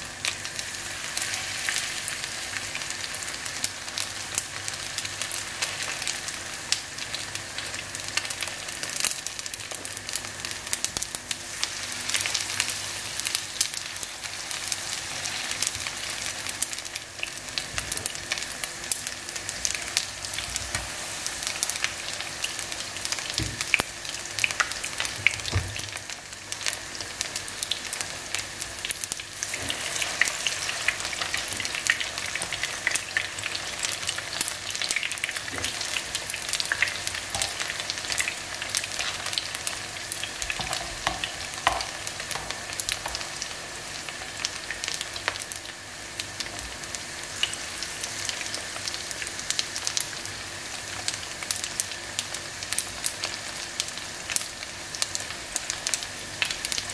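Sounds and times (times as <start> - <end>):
fritters sizzling in oil: 0.0 - 56.9.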